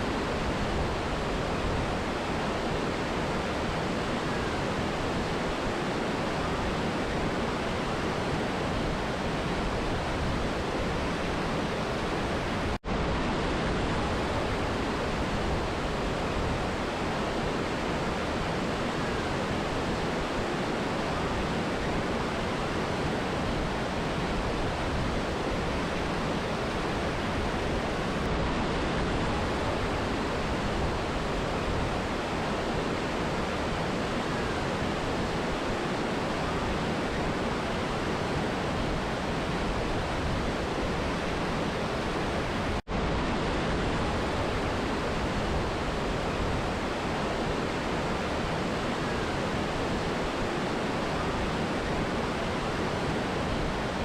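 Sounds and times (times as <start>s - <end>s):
mountain river and waterfall rushing: 0.0s - 54.0s.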